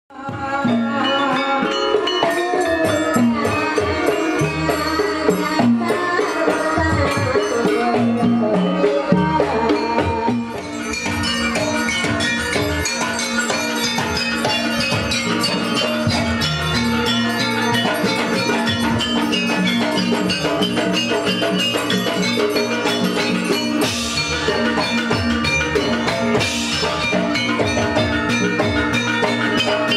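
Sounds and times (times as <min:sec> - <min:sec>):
hand-drum beats: 0:00.1 - 0:29.9
gong-chime and metallophone tones: 0:00.6 - 0:29.9.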